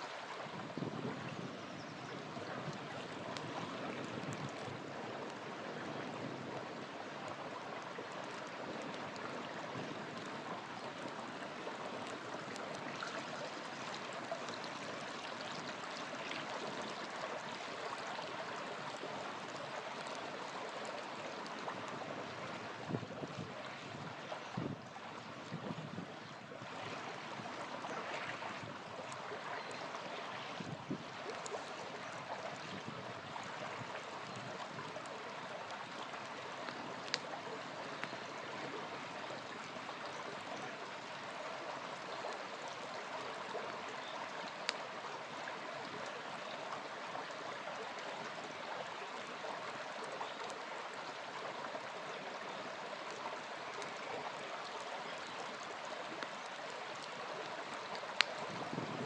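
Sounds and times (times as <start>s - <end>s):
small river flowing: 0.0s - 59.0s
campfire crackling: 2.4s - 24.3s, 26.8s - 46.3s, 47.1s - 58.9s.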